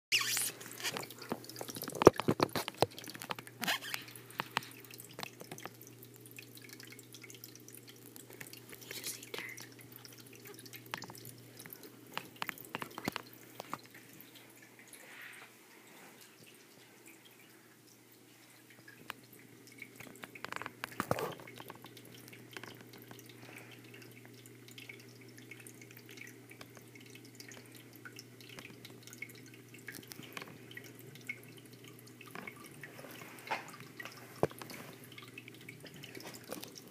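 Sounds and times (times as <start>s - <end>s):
water splashing and dripping: 0.1s - 36.9s.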